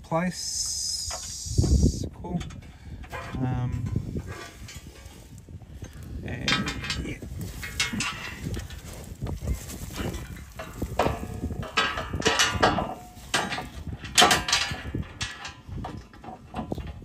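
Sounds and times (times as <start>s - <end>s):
metal plate clanking and scraping: 1.1s - 17.0s.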